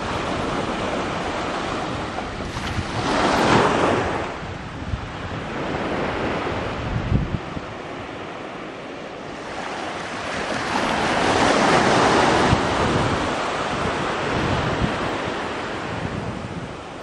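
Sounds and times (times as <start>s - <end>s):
waves washing on shore: 0.0s - 17.0s
wind buffeting microphone: 0.0s - 17.0s.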